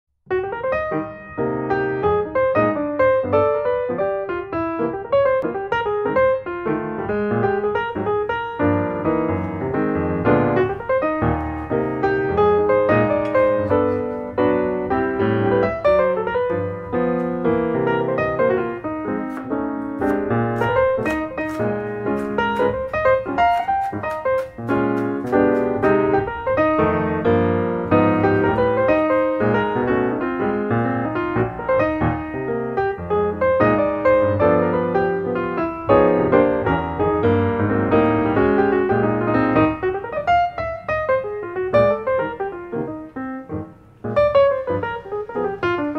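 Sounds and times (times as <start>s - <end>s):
piano music: 0.3s - 45.9s.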